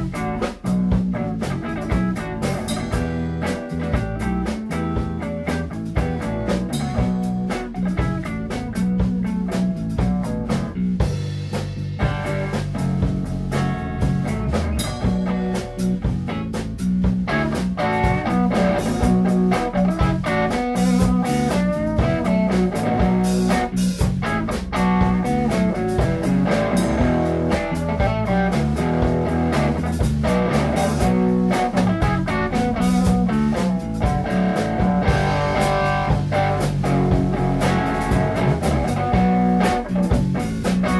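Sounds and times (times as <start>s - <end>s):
drums with steady beat: 0.0s - 40.9s
guitar-led instrumental music: 0.0s - 40.9s.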